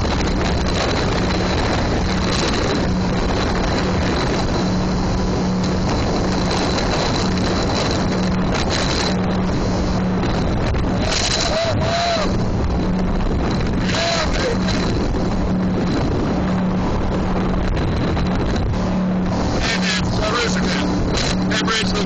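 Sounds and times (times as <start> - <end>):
boat engine running hard: 0.0 - 22.0
rush of water: 0.0 - 22.0.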